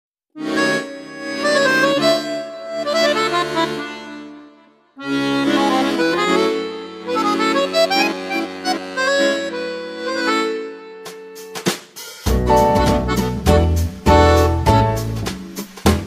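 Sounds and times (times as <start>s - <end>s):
accordion tune: 0.4s - 16.0s.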